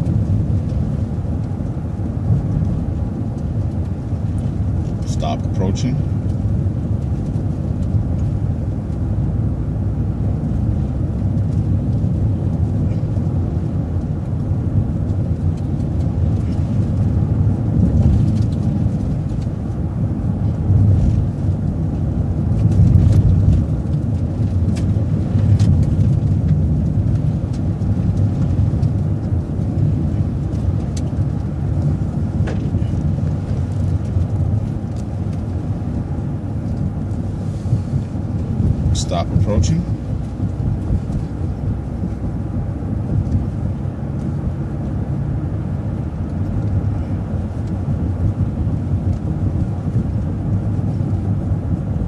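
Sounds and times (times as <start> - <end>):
vehicle road and engine rumble: 0.0 - 52.0.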